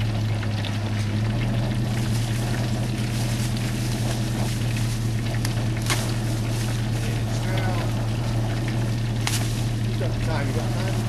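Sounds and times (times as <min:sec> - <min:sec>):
gas burner hissing drone: 0:00.0 - 0:11.0.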